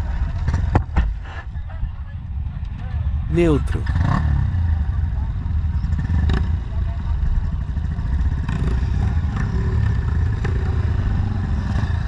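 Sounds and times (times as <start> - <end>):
trail bikes running: 0.0 - 12.0.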